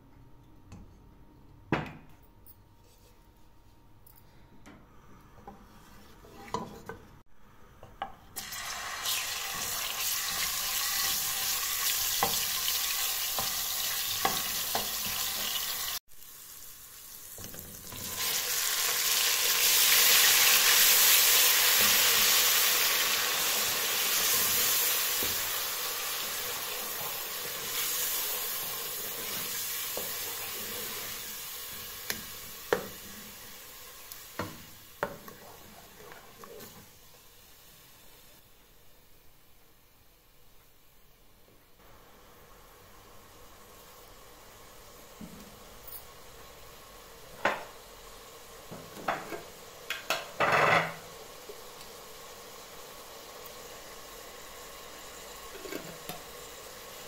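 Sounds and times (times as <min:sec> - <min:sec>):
hot oil sizzling: 0:08.4 - 0:38.9, 0:41.8 - 0:57.0.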